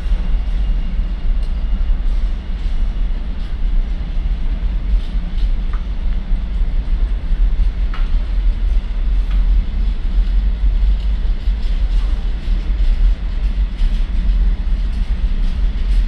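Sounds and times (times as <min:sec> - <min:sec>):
faint clicks of train wheels: 0:00.0 - 0:16.0
freight train rolling on rails: 0:00.0 - 0:16.0.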